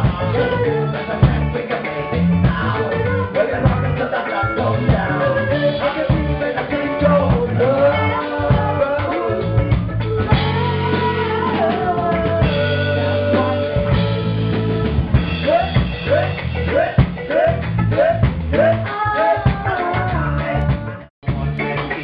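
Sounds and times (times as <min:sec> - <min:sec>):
drum kit: 0:00.0 - 0:22.0
voices singing into microphones: 0:00.0 - 0:22.0.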